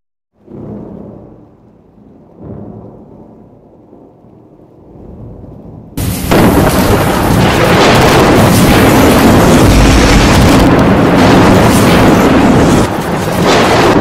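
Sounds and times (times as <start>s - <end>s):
loud thunderclap: 0.4s - 4.2s, 4.9s - 14.0s
thunder rumbling: 0.4s - 14.0s.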